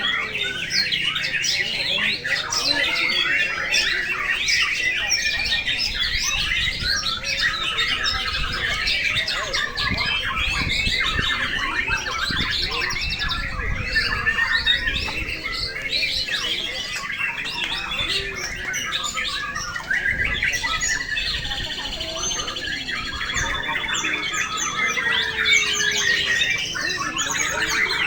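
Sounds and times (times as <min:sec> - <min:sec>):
chorus of birds singing: 0:00.0 - 0:28.0.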